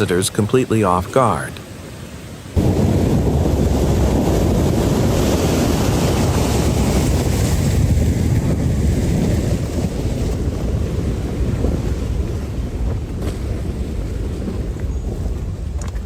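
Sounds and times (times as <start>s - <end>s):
rushing flood water: 0.0s - 16.0s
wind buffeting microphone: 1.6s - 16.0s.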